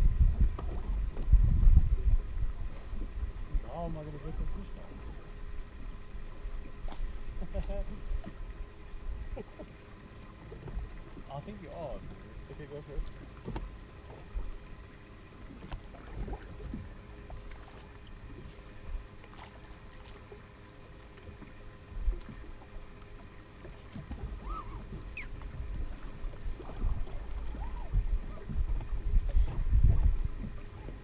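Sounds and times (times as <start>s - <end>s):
faint steady hum: 0.0s - 31.0s
waves slapping against boat hull: 0.0s - 31.0s.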